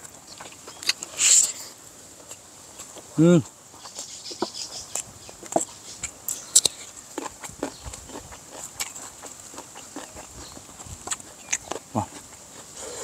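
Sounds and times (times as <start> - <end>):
chewing and mouth smacks: 0.0 - 1.6, 2.2 - 13.0.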